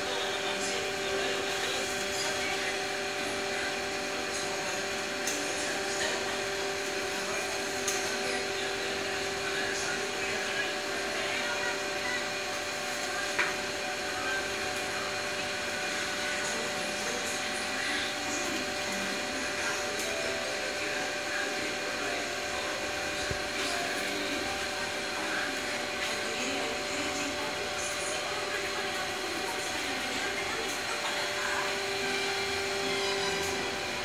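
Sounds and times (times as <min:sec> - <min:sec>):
printing press humming and whirring: 0:00.0 - 0:34.0.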